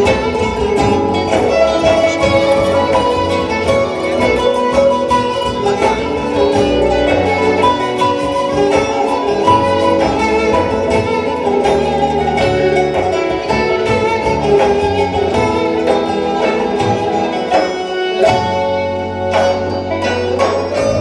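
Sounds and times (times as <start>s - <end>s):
string ensemble folk music: 0.0s - 21.0s.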